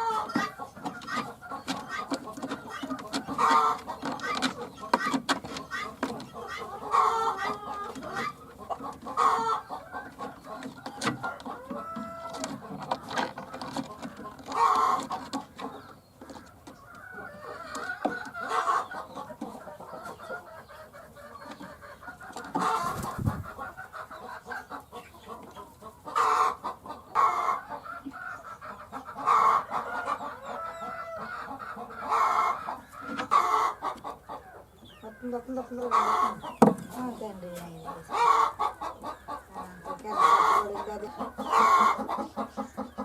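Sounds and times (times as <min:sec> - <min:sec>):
hens clucking: 0:00.0 - 0:43.0.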